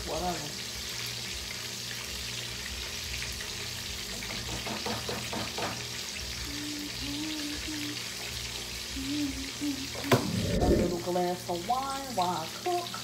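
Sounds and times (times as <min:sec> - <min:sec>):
fish sizzling in hot oil: 0:00.0 - 0:10.1, 0:10.8 - 0:13.0.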